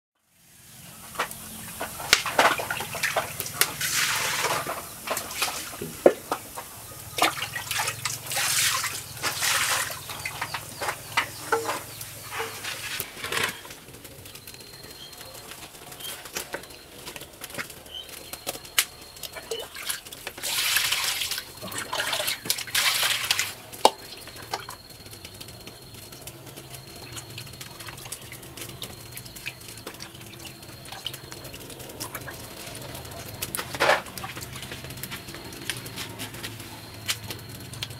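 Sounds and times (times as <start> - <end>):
water splashing in basin: 1.2 - 13.7, 17.3 - 36.0.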